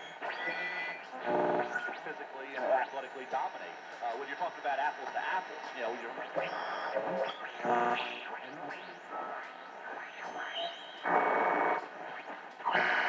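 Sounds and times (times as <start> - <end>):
radio tuning static and whistles: 0.0 - 13.0
snatches of radio broadcasts: 0.0 - 13.0.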